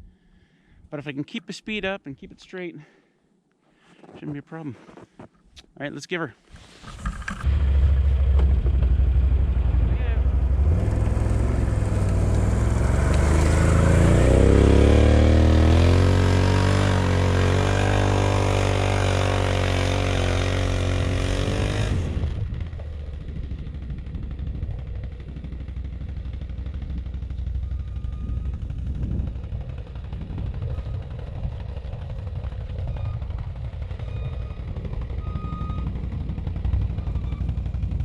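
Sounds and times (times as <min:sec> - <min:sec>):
atv engine revving: 0:07.1 - 0:38.0.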